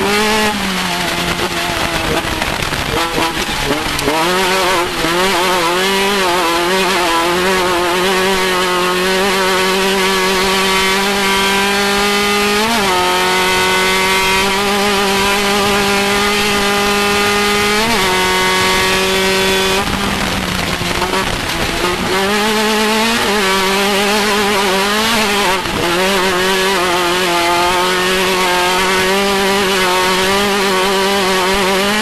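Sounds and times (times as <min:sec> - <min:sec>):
race vehicle engine revving high: 0:00.0 - 0:32.0.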